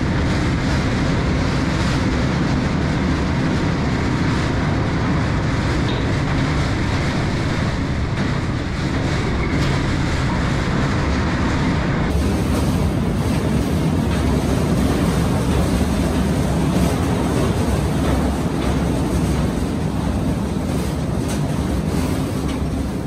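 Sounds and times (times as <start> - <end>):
ride train rumbling on track: 0.0 - 23.0.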